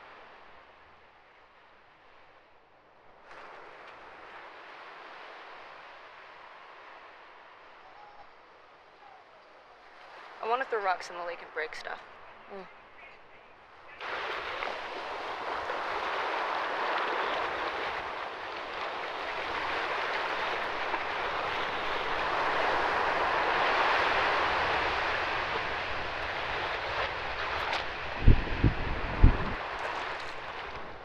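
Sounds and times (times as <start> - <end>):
choppy water rushing: 0.0 - 31.0
wind: 0.0 - 31.0.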